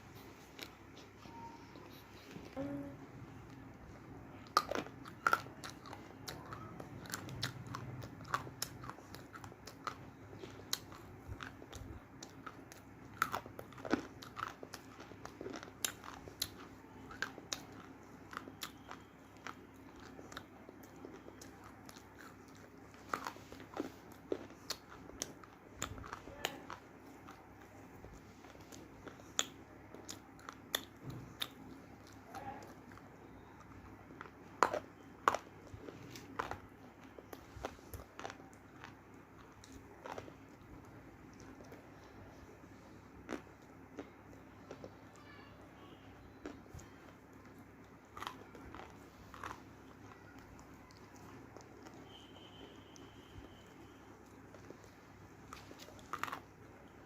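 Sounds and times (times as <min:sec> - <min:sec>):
person chewing crunchy clay: 0:00.1 - 0:45.2, 0:46.2 - 0:57.0.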